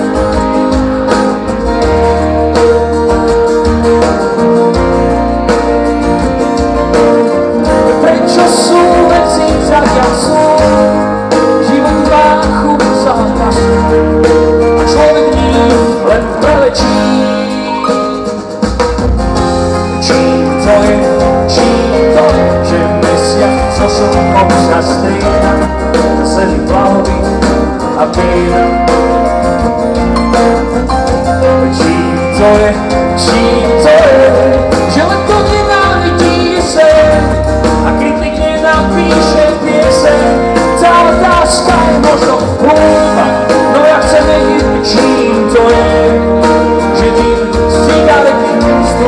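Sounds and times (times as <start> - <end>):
live pop-rock band playing: 0.0 - 49.0.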